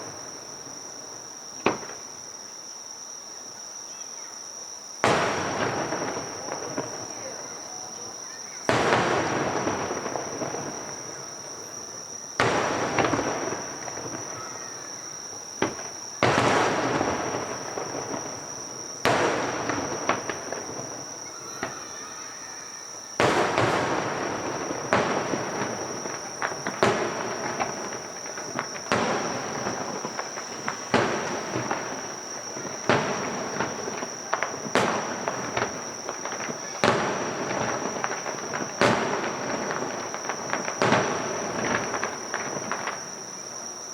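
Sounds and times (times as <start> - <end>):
firework shells bursting with crackle: 0.0 - 2.2, 5.0 - 43.9.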